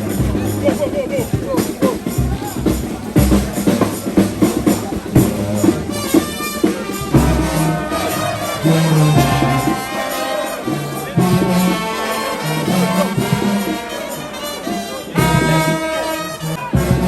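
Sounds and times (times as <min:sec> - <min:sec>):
horns playing held notes: 0:00.0 - 0:17.0.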